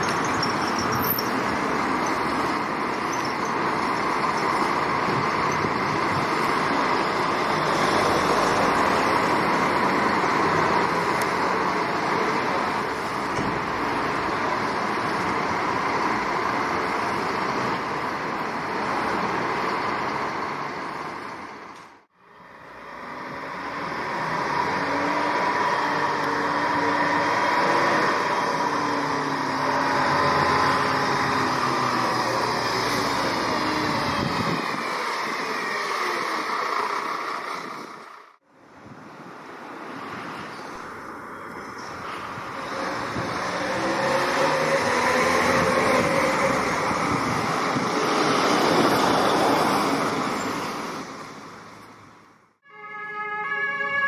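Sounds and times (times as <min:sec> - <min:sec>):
fire engine engines: 0:00.0 - 0:54.0.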